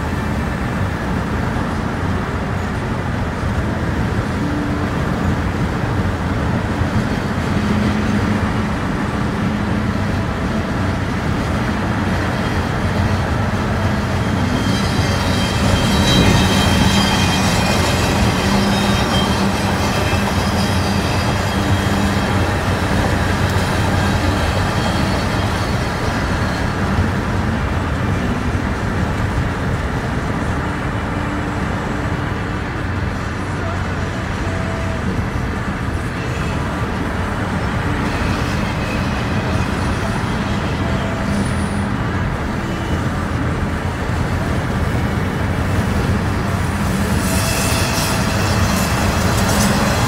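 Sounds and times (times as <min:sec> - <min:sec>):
car road noise and engine hum: 0:00.0 - 0:50.0.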